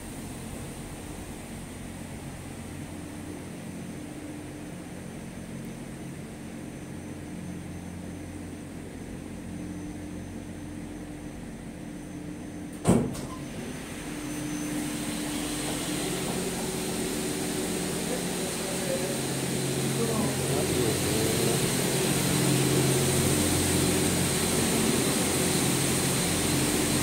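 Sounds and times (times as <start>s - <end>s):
gondola machinery humming: 0.0s - 27.0s.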